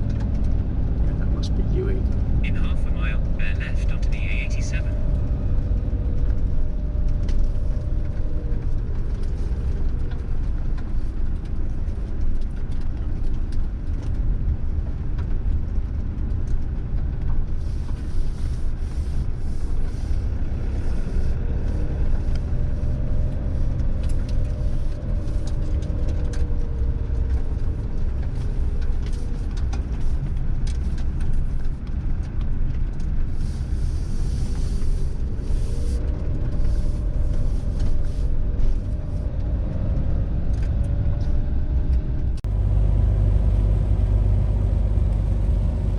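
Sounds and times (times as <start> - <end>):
diesel engine while driving: 0.0 - 45.9
road rumble: 0.0 - 45.9.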